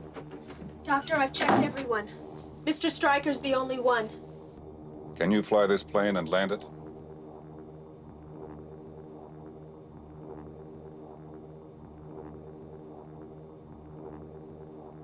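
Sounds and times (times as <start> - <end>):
airliner engines droning in cabin: 0.0 - 15.0.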